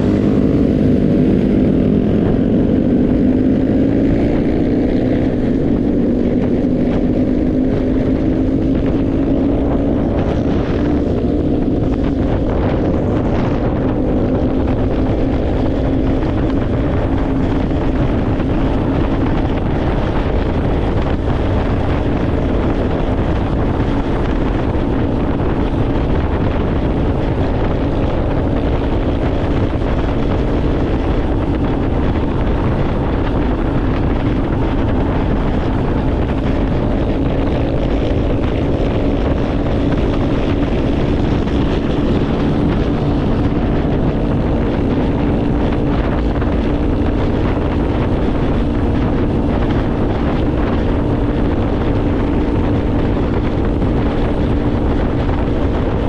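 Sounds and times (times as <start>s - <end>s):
vehicle engine running steadily: 0.0s - 56.0s
wind buffeting microphone: 0.0s - 56.0s.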